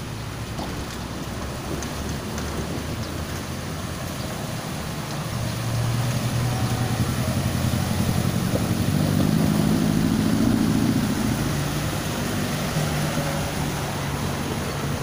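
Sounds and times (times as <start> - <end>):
vehicle engines humming: 0.0 - 15.0
wash of moving water: 0.0 - 15.0.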